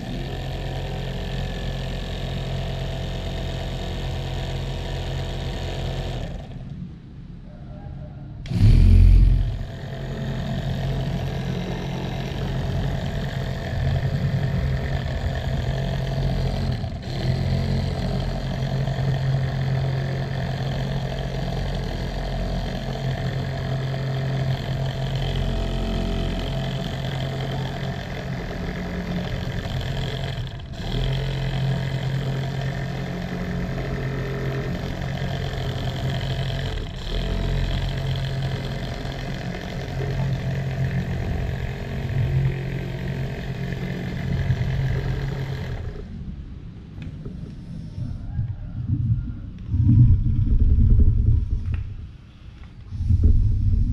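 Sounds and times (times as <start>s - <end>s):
rotavator starting burst: 0.0s - 6.7s, 8.4s - 46.5s
model tractor motor hum: 0.0s - 7.2s, 8.4s - 48.2s.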